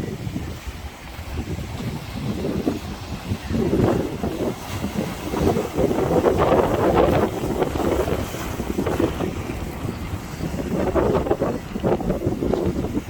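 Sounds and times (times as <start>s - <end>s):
ocean waves against rocks: 0.0s - 13.0s
wind buffeting microphone: 0.0s - 13.0s.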